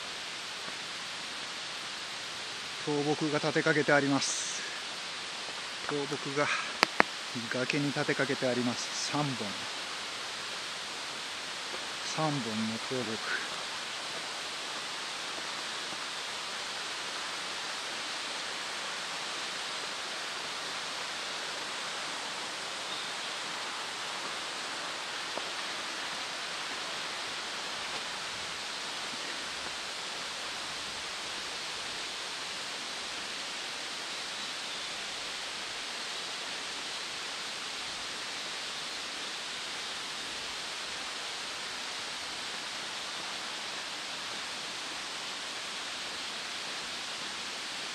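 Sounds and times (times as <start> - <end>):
steady outdoor hiss: 0.0 - 47.9.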